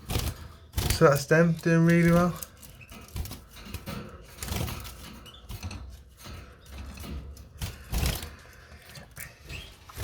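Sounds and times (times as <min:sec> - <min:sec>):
handling knocks and rustles: 0:00.0 - 0:10.0.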